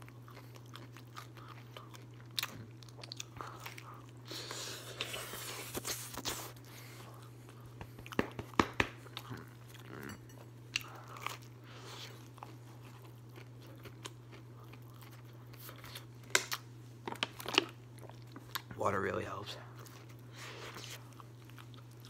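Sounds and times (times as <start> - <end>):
person chewing food: 0.0 - 18.8, 19.7 - 22.0.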